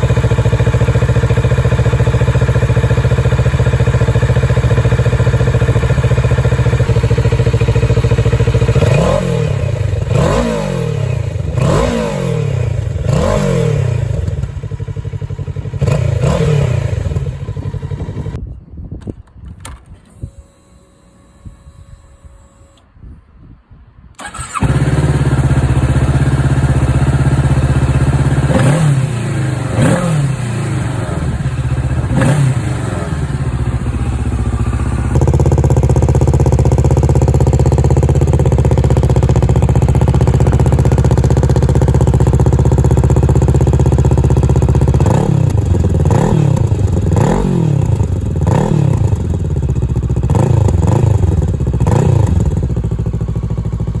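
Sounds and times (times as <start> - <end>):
motorcycle engine revving: 0.0 - 18.4, 24.2 - 54.0.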